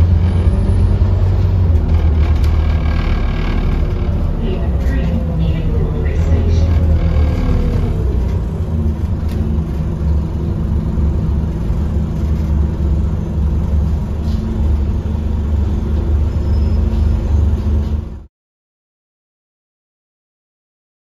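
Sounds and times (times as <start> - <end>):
bus diesel engine rumble: 0.0 - 18.3
road noise: 0.0 - 18.3.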